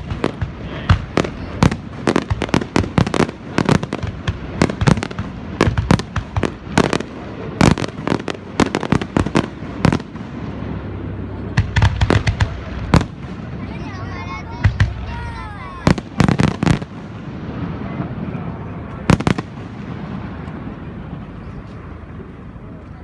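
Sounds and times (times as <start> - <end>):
fireworks bangs and cracks: 0.0 - 21.2.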